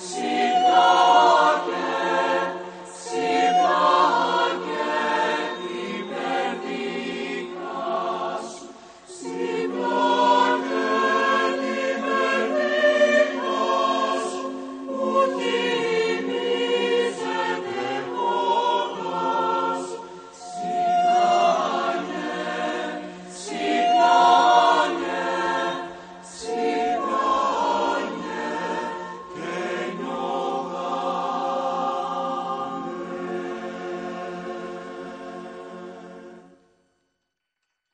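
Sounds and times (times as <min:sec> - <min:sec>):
mixed choir singing in harmony: 0:00.0 - 0:36.8.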